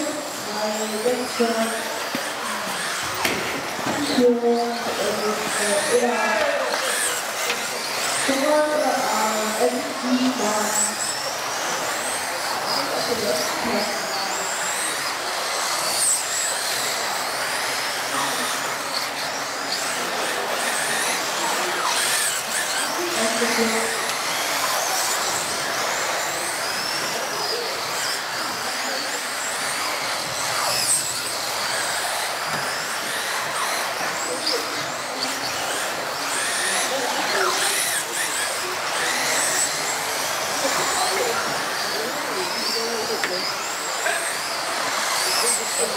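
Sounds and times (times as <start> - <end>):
rc car motors whining: 0.0 - 45.9.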